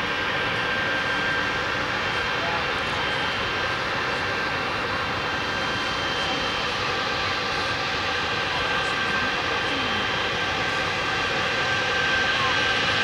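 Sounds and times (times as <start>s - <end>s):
jet engines running with whine: 0.0s - 13.0s.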